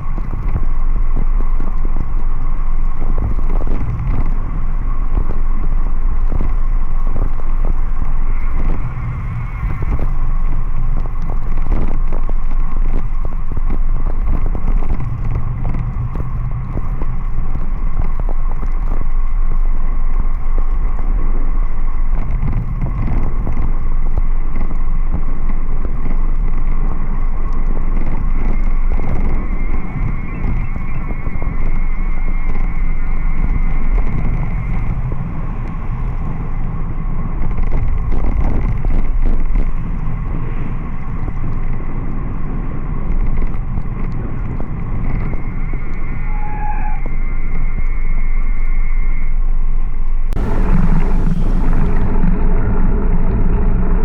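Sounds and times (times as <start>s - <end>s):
faint steady whine: 0.0s - 54.0s
road noise: 0.0s - 54.0s
wind rumble on microphone: 0.0s - 54.0s.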